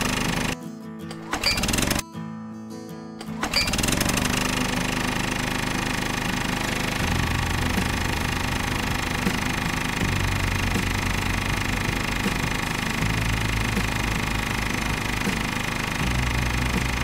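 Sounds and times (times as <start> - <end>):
small motor machine rattling: 0.0 - 2.0, 3.2 - 17.0.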